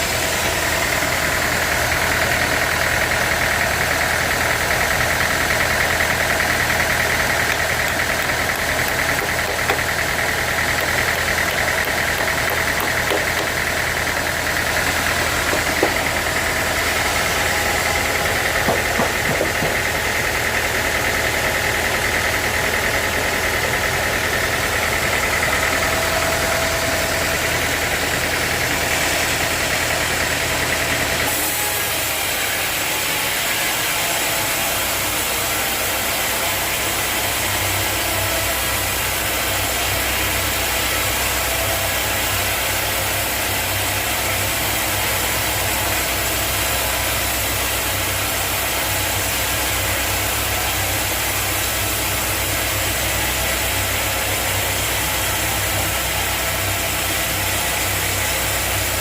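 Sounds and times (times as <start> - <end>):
high machine whine: 0.0 - 59.0
sawmill machinery drone: 0.0 - 59.0.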